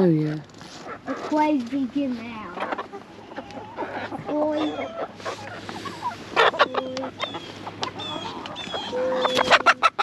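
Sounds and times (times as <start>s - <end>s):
chickens clucking and calling: 0.1s - 10.0s.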